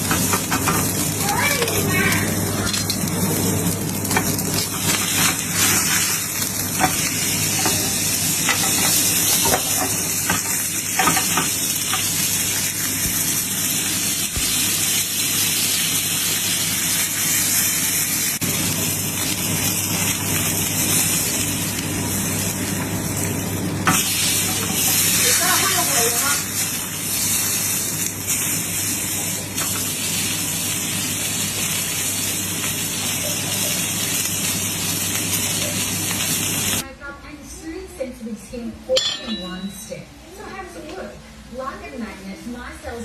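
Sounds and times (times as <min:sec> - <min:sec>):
steak sizzling in a pan: 0:00.0 - 0:36.8.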